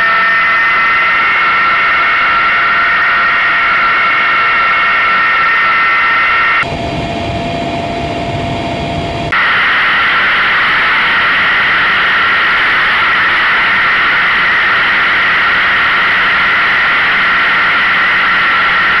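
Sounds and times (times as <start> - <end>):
wind and rotor rushing: 0.0 - 19.0
helicopter cabin rumble: 0.1 - 18.9.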